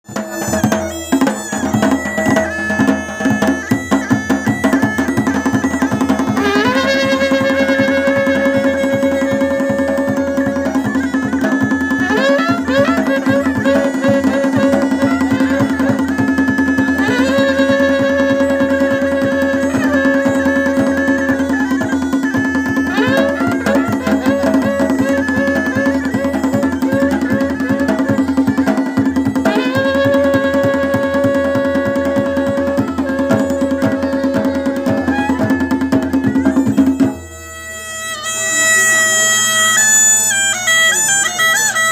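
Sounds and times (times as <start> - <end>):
ornamented melody: 0.0 - 41.9.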